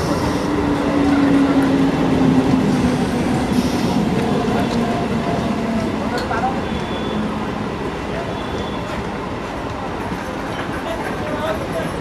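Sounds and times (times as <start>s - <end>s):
low hum of train: 0.0s - 12.0s
train wheels rumbling on rails: 0.0s - 12.0s.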